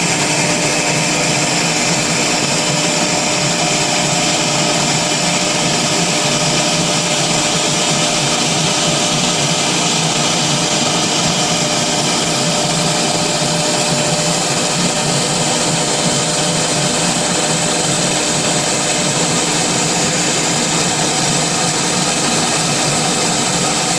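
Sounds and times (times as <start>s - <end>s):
router spindle whining: 0.0s - 23.9s.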